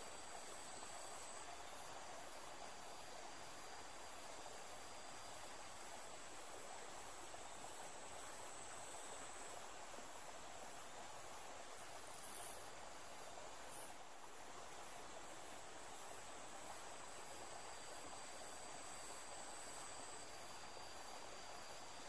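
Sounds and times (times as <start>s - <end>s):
insects chirring: 0.0s - 22.0s
steady low hiss: 0.0s - 22.0s.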